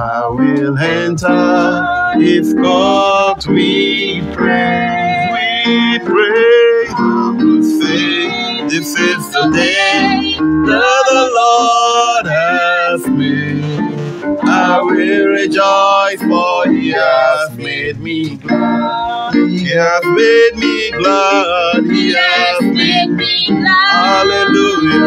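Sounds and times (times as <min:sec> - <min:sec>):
guitar accompaniment: 0:00.0 - 0:25.0
man singing: 0:00.0 - 0:25.0.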